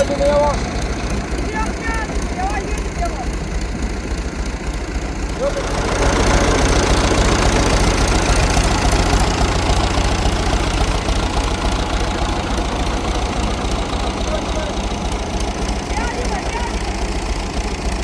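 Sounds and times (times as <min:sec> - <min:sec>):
farm machine engine rumbling: 0:00.0 - 0:18.0.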